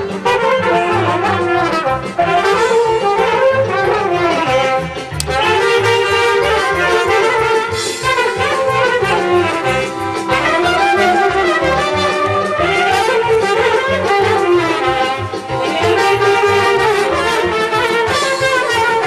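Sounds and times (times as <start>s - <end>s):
brass band with accordion: 0.0s - 19.0s.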